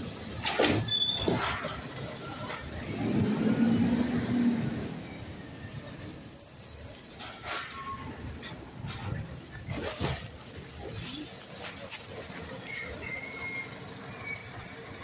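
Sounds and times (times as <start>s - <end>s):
garbage truck engine droning: 0.0s - 15.0s.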